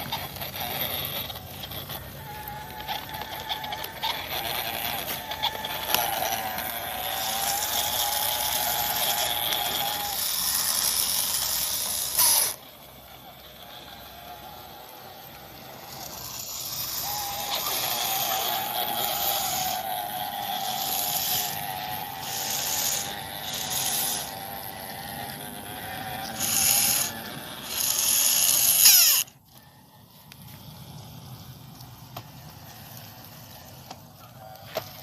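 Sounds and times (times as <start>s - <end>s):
small electric motor whining: 0.0s - 35.0s.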